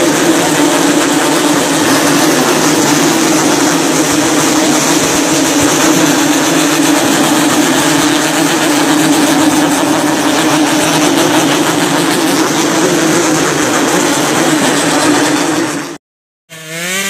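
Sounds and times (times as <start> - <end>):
motorcycles revving: 0.0 - 17.0.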